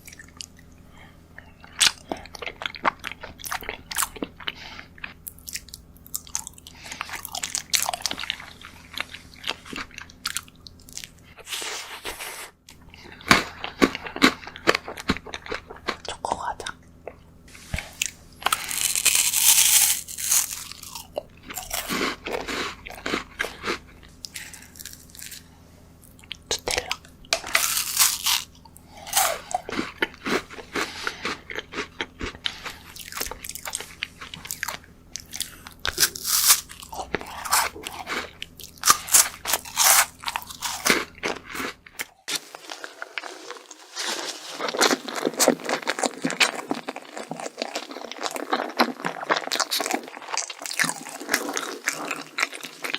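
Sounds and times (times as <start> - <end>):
background hum: 0.0 - 52.9
crunchy bites and chewing: 1.4 - 11.5, 12.1 - 17.2, 17.8 - 52.9.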